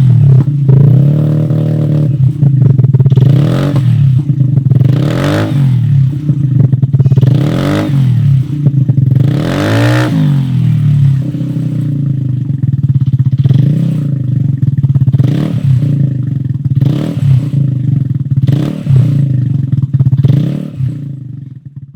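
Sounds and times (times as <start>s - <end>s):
scooter engine idling with throttle blips: 0.0s - 21.9s.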